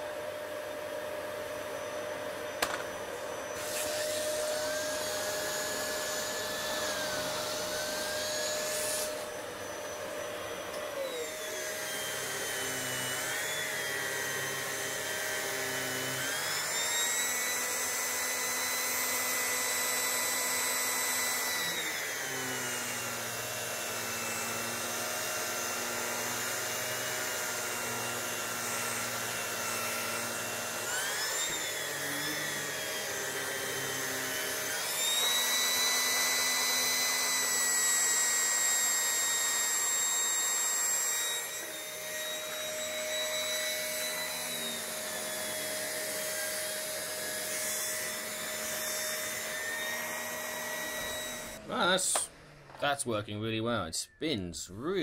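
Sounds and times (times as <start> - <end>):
vacuum cleaner whine: 0.0 - 52.9.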